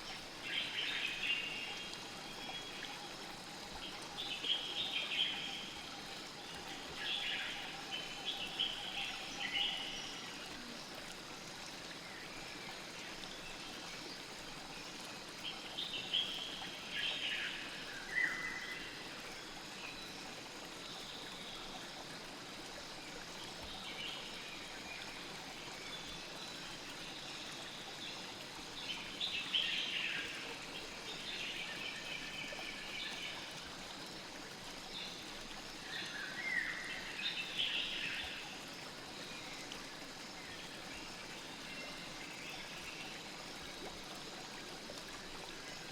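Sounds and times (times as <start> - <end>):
river flowing: 0.0 - 45.9.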